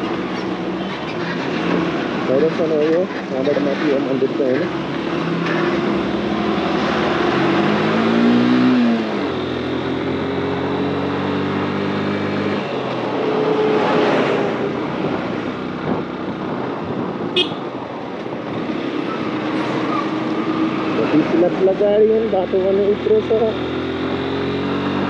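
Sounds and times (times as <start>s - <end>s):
motorcycle engine: 0.0s - 25.0s
wind and road noise: 0.0s - 25.0s.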